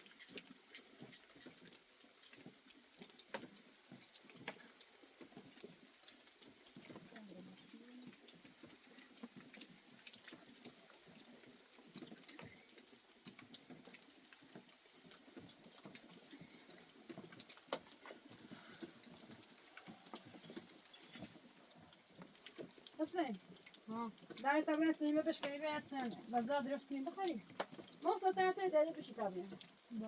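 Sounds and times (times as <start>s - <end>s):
faint ticks and rustles: 0.0s - 30.0s.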